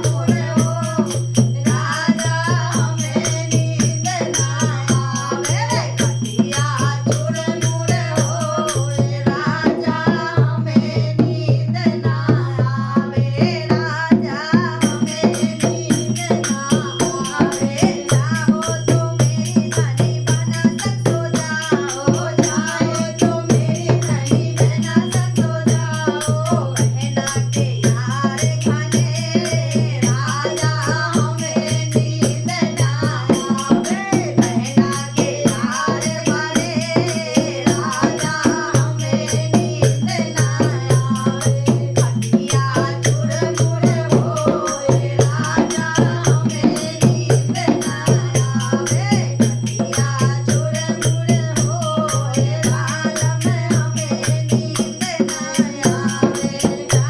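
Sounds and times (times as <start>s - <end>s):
rattling percussion beat: 0.0s - 57.0s
woman singing folk song: 0.0s - 57.0s.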